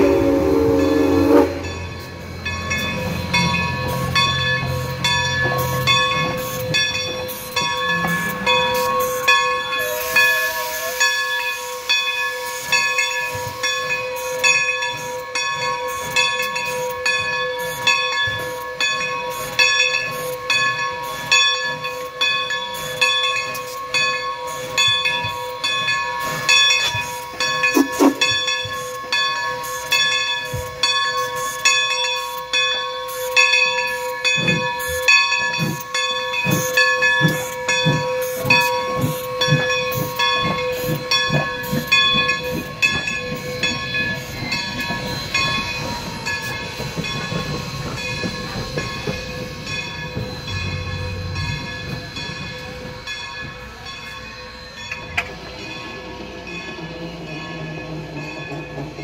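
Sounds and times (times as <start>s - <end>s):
crossing bell ringing: 0.0s - 59.0s
steam hissing: 0.0s - 59.0s.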